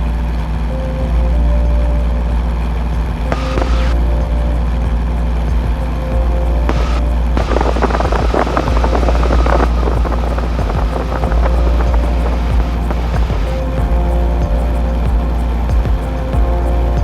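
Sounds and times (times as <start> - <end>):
crackling: 0.0 - 17.0.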